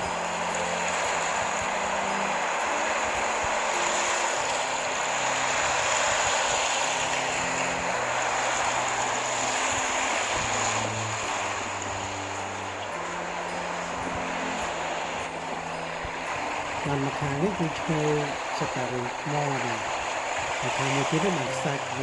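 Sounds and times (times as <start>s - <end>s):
low held notes: 0.0s - 22.0s
vehicle road and wind noise: 0.0s - 22.0s.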